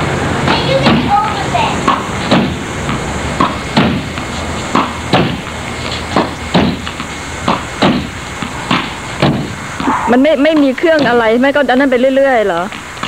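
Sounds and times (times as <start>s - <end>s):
ball bouncing on concrete: 0.4s - 11.9s.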